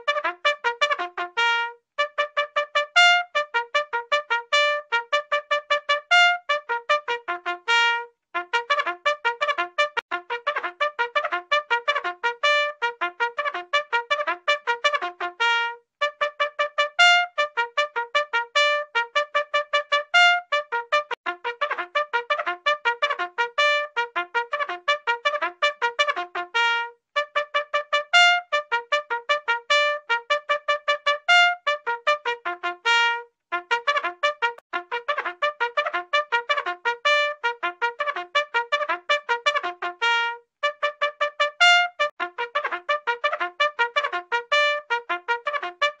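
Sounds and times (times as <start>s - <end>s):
bugle call: 0.0s - 46.0s.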